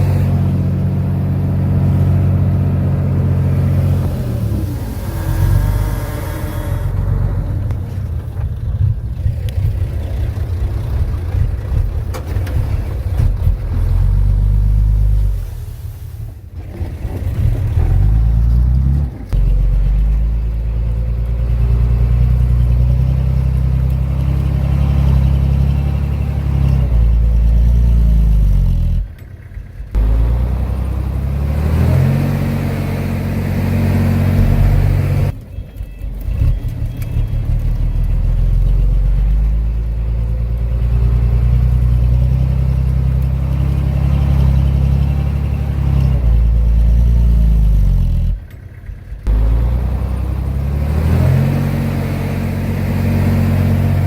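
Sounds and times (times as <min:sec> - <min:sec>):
heavy diesel engine working: 0:00.0 - 0:54.0.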